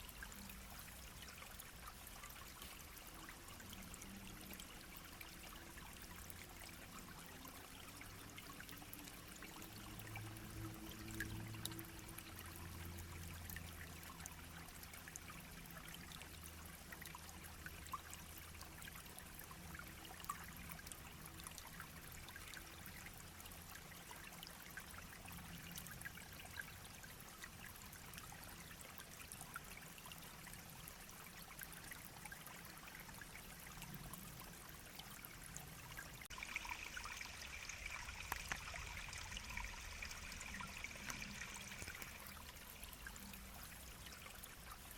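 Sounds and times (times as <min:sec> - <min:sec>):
brook babbling: 0:00.0 - 0:44.9.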